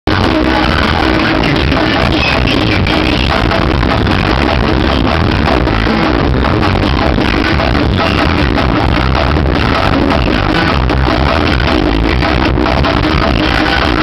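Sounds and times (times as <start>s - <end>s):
loud music with heavy bass: 0.0s - 14.0s.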